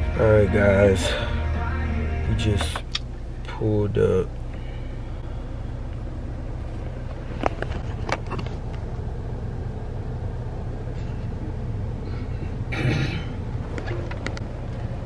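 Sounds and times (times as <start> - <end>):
car engine humming in cabin: 0.0 - 15.0.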